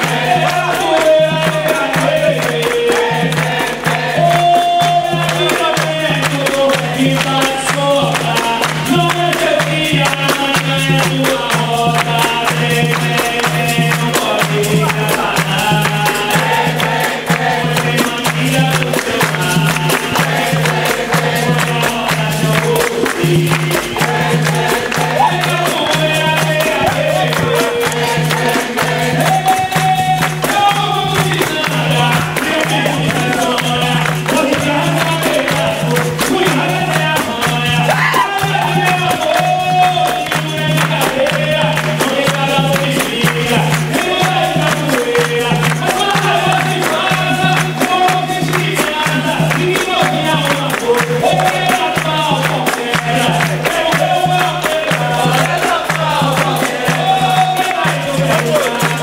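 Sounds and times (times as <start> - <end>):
group singing: 0.0 - 59.0
hand drum rhythm: 0.0 - 59.0
hands clapping: 0.0 - 59.0
tambourines: 0.0 - 59.0.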